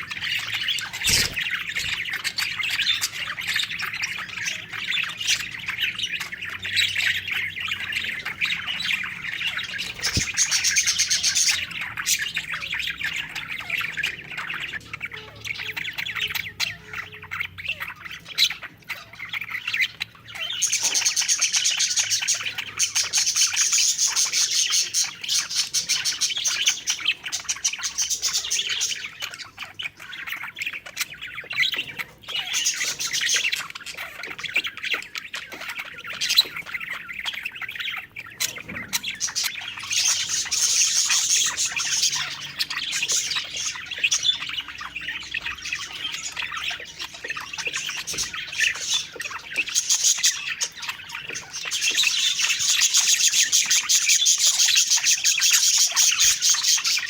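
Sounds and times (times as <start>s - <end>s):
bird squawk: 0.0s - 57.0s
budgerigars chirping and warbling: 0.0s - 57.0s.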